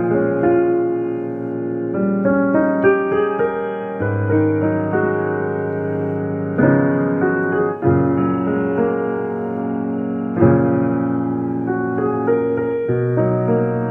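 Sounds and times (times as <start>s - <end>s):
piano tune: 0.0s - 13.9s.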